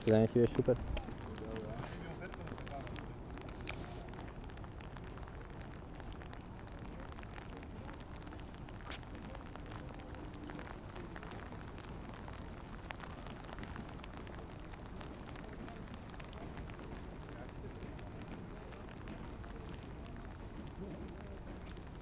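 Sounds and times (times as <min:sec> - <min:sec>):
light rain pattering: 0:00.0 - 0:22.0.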